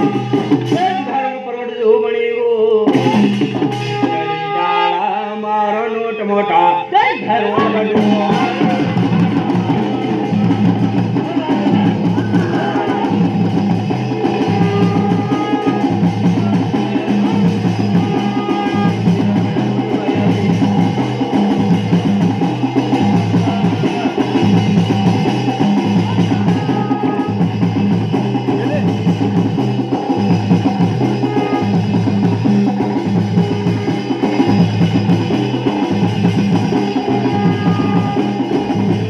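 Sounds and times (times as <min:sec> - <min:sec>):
fast drumming: 0:00.0 - 0:01.2, 0:02.8 - 0:04.5, 0:07.0 - 0:39.0.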